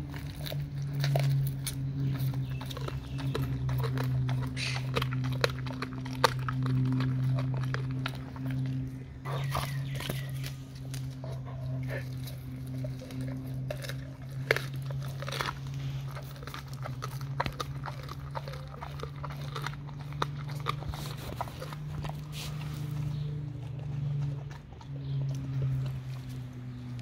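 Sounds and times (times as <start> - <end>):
bone cracking: 0.0 - 22.2
dog chewing and crunching: 0.0 - 27.0
steady low hum: 0.0 - 27.0
wet licking and mouthing: 0.0 - 27.0.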